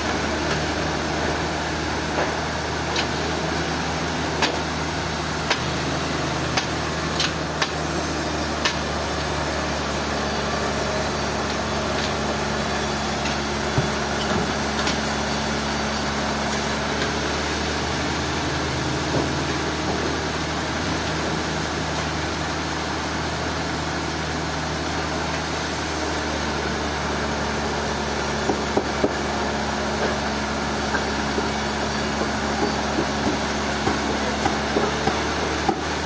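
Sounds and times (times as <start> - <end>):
sawmill machinery engine running: 0.0 - 36.0.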